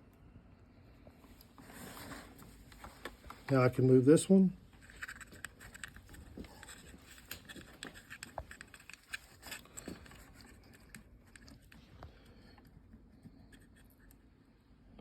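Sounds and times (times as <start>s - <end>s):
small clicks and light scrapes: 0.9s - 4.0s, 4.6s - 14.5s.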